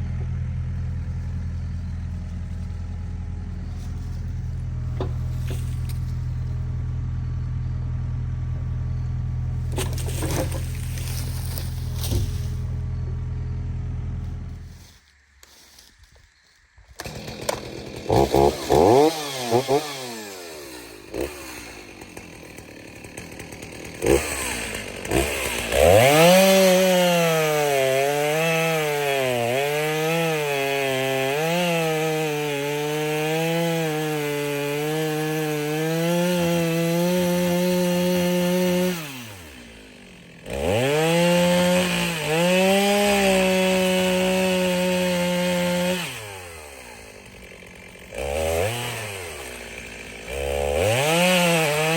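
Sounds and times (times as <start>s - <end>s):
chainsaw cutting wood: 0.0s - 15.9s, 16.9s - 51.9s.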